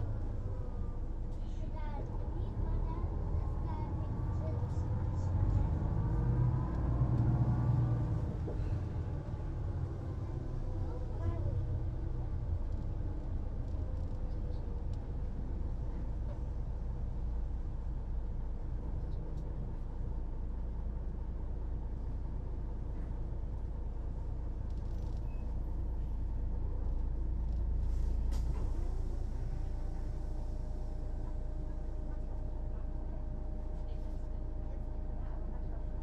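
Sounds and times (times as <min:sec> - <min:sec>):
bus diesel engine running: 0:00.0 - 0:36.0.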